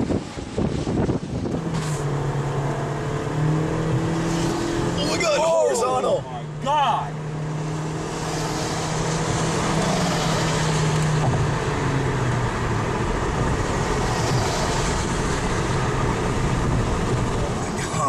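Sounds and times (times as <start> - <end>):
low vehicle hum: 0.0 - 18.0
road and wind noise: 0.0 - 18.0.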